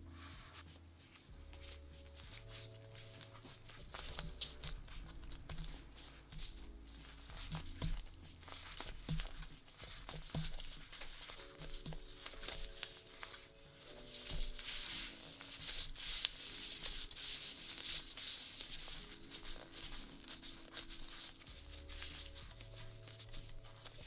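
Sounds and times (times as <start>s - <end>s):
hands rolling dough on board: 0.0s - 24.0s
plastic gloves crinkling: 0.0s - 24.0s
soft background music: 0.0s - 24.0s.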